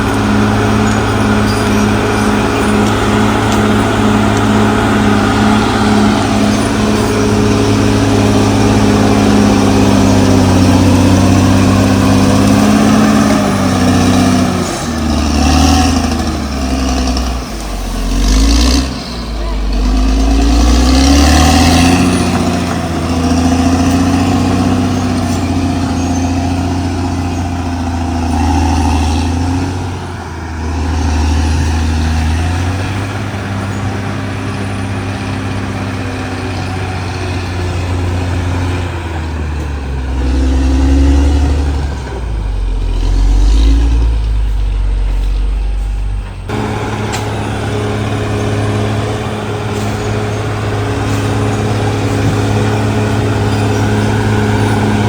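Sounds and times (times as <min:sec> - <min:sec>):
bulldozer diesel engine working: 0:00.0 - 0:55.0.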